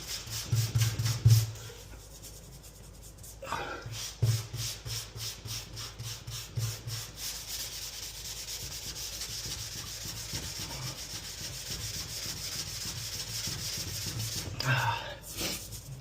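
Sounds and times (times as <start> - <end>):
hand sanding: 0.0 - 16.0.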